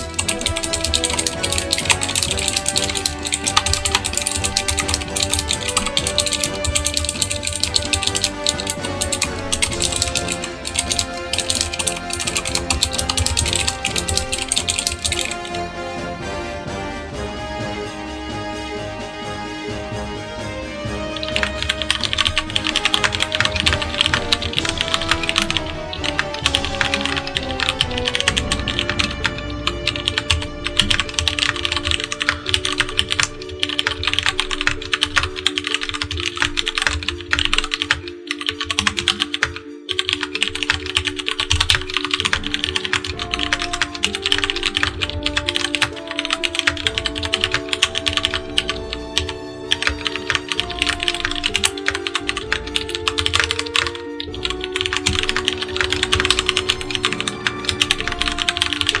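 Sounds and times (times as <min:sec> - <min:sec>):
fast mechanical keyboard typing: 0:00.0 - 0:15.6, 0:21.1 - 0:59.0
background music: 0:00.0 - 0:59.0.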